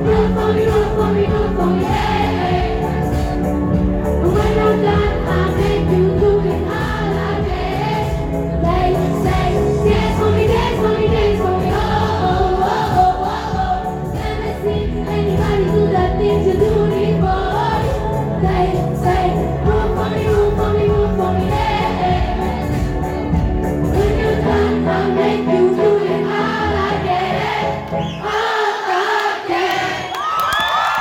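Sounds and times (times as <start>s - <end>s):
live pop band: 0.0s - 27.6s.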